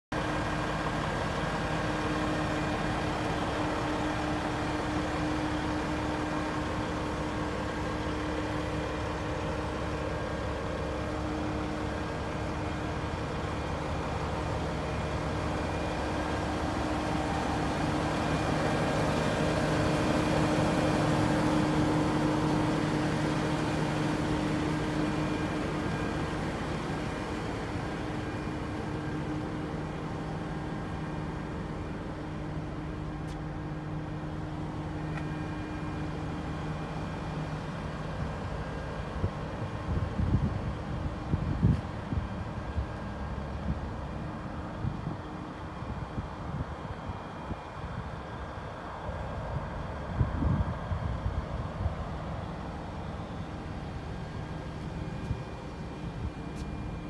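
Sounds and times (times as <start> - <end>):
diesel engine idling: 0.1 - 57.0.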